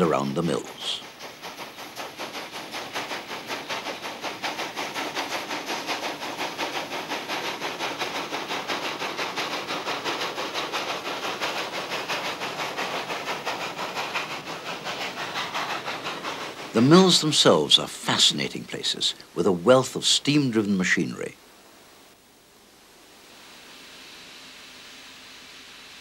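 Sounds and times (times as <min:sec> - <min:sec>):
steam locomotive exhaust beats: 0:00.0 - 0:21.5, 0:23.0 - 0:26.0
hiss of steam: 0:00.0 - 0:26.0.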